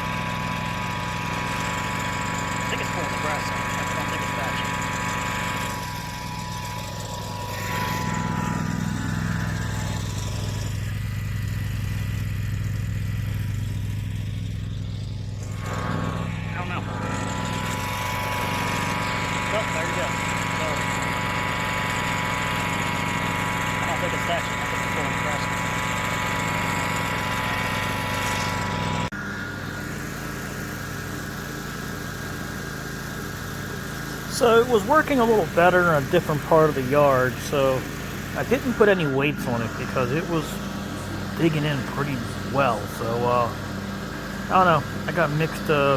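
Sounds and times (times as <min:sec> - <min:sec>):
lawn tractor engine running: 0:00.0 - 0:45.9.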